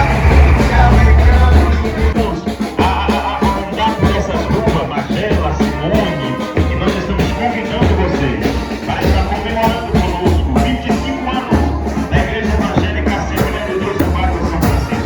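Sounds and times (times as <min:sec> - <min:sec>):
band music with drums: 0:00.0 - 0:15.0.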